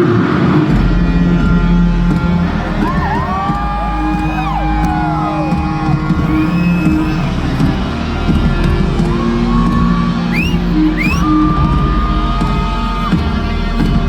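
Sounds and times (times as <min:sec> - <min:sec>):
crowd cheering: 0:00.0 - 0:14.0
synth chords over deep bass: 0:00.0 - 0:14.0.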